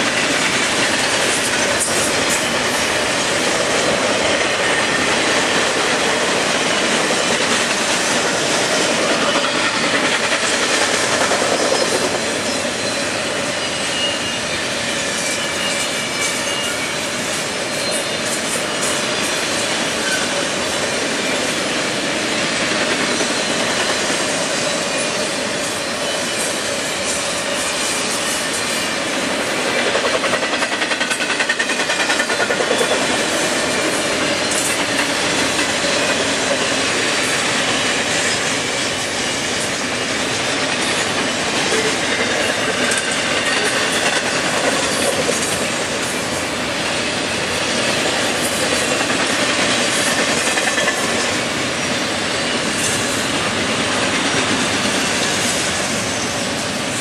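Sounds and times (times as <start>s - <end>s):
train wheels clattering over rail joints: 0.0s - 14.1s, 15.0s - 57.0s.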